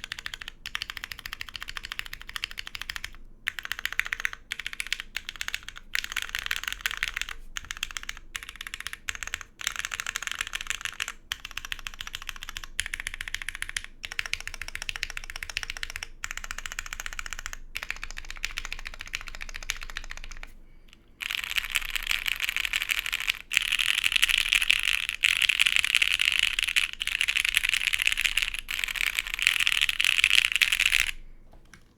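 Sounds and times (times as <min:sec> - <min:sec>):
fast mechanical keyboard typing: 0:00.0 - 0:20.5, 0:21.2 - 0:31.2.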